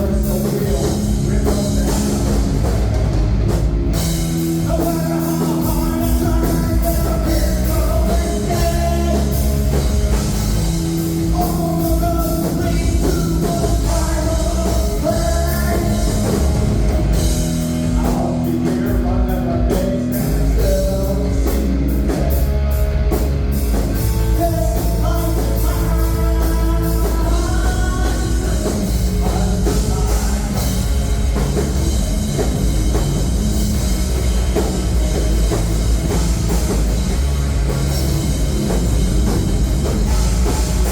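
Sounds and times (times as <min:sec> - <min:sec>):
live heavy rock band playing: 0:00.0 - 0:40.9.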